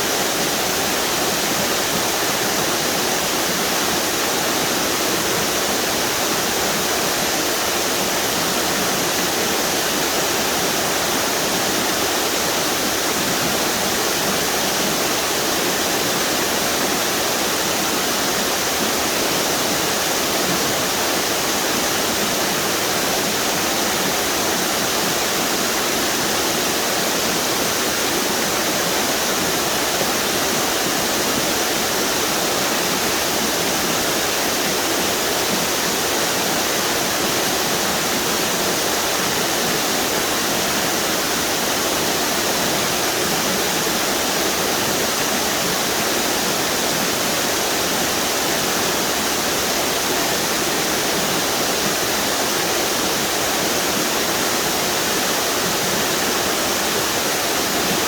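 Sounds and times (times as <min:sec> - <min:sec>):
water rushing over waterfalls: 0:00.0 - 0:58.0.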